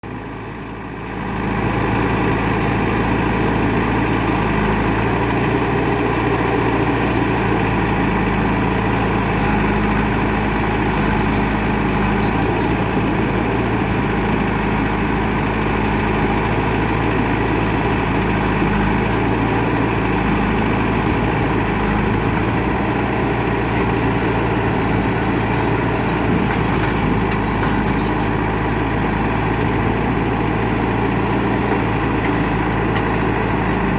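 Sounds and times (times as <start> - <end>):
heavy diesel engines running: 0.0 - 33.9.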